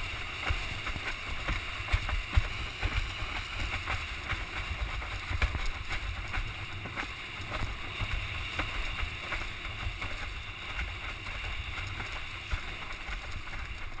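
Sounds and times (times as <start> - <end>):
water hiss: 0.0 - 14.0
water slapping against hull: 0.0 - 14.0.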